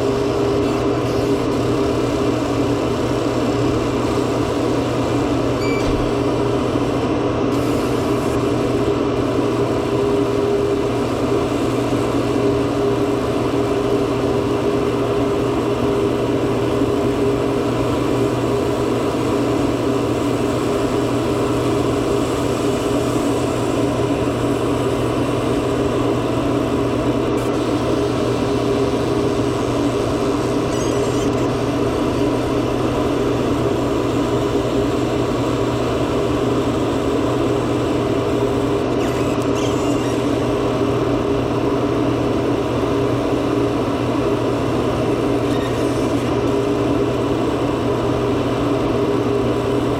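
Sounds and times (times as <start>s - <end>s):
laser machine humming: 0.0s - 49.9s.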